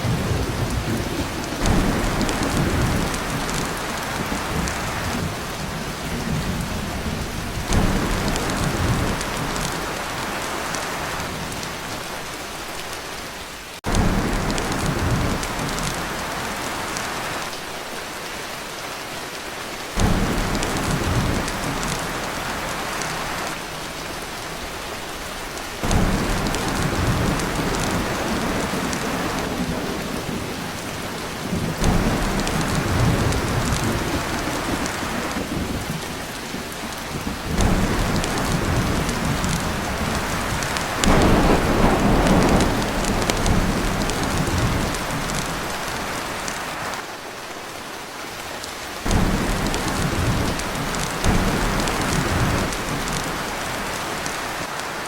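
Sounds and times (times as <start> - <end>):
thunder rumbles: 0.0 - 12.0, 13.8 - 17.4, 20.0 - 46.6, 49.1 - 54.6
heavy rain on a tin roof: 0.0 - 55.0.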